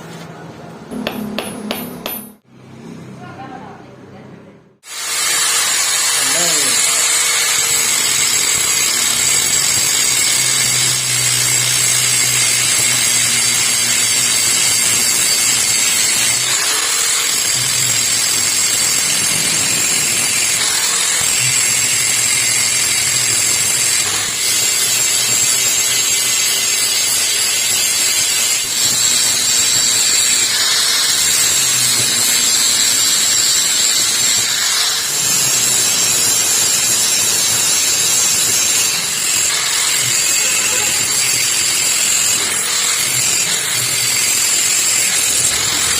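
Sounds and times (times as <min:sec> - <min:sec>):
electric grinder grinding metal: 0:04.8 - 0:45.9.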